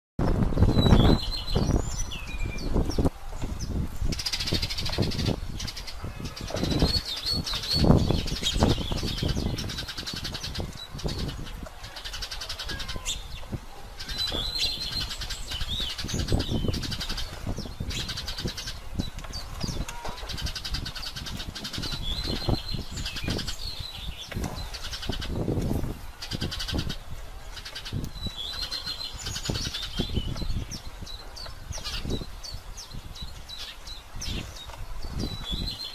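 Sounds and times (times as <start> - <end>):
small birds chirping: 0.2 - 35.9.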